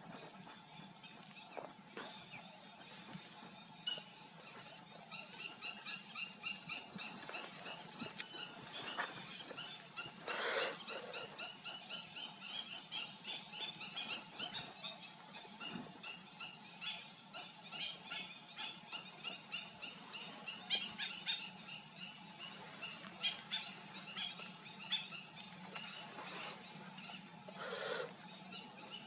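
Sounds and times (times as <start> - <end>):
birds chattering: 0.0 - 29.0.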